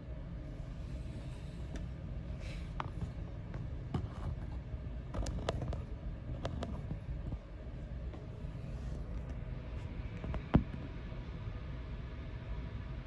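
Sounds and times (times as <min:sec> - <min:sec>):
fume hood airflow rumble: 0:00.0 - 0:13.0.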